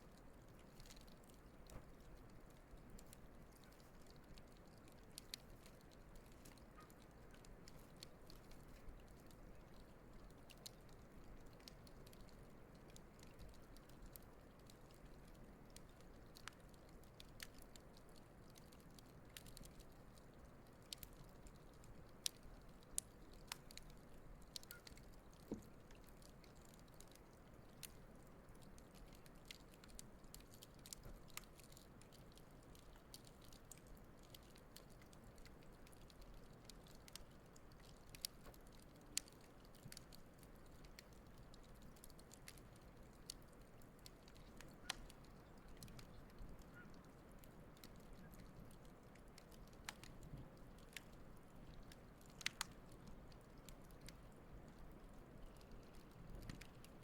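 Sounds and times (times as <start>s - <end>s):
campfire crackling and popping: 0.1s - 57.0s.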